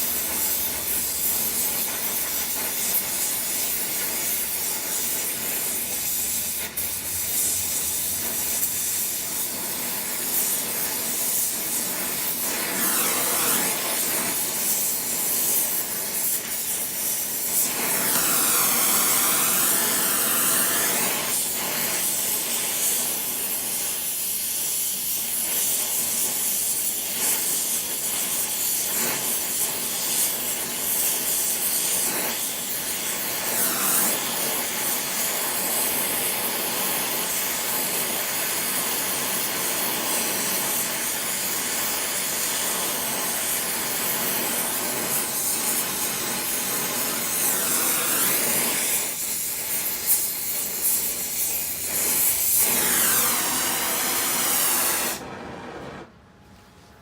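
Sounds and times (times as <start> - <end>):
torch flame hissing: 0.0 - 56.1.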